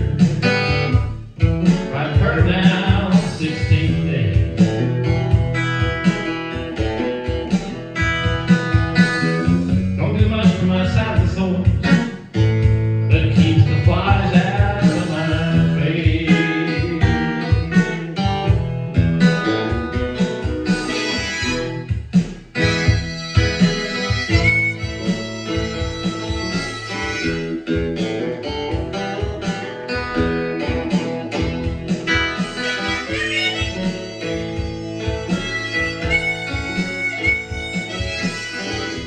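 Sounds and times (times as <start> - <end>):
bending guitar melody: 0.0 - 39.0
strummed acoustic guitar: 0.0 - 39.0.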